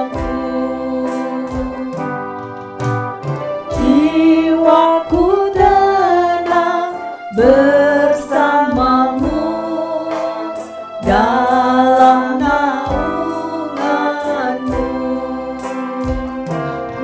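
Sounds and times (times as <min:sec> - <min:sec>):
woman singing worship song: 0:00.0 - 0:02.4, 0:03.7 - 0:17.0
electric guitar and band: 0:00.0 - 0:17.0.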